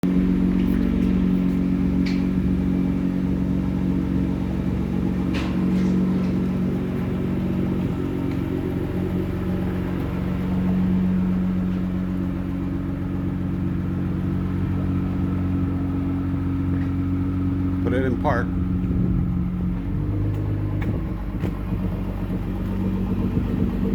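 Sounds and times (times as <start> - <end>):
car engine humming: 0.0 - 23.9.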